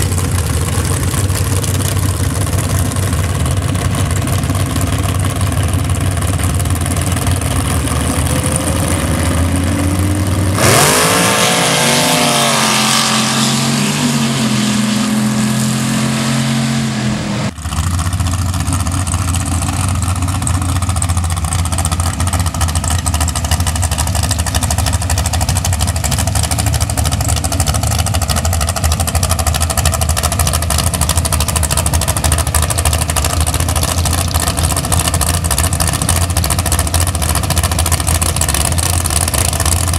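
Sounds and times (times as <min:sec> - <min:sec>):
race engine idling and revving: 0:00.0 - 0:39.9.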